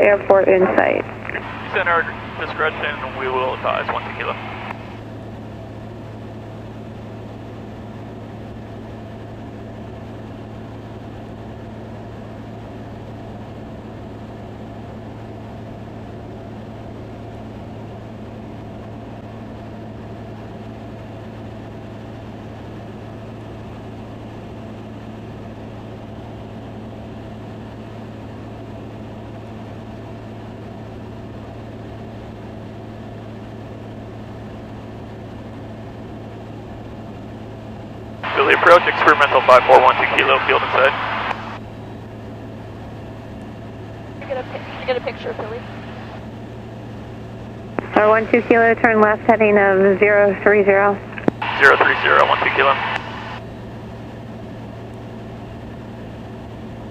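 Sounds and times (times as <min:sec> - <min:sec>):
light aircraft engine drone: 0:00.0 - 0:56.9.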